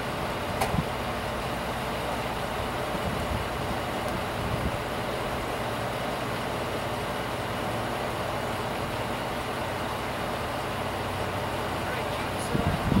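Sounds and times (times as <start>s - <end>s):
pickup truck idling: 0.0s - 13.0s.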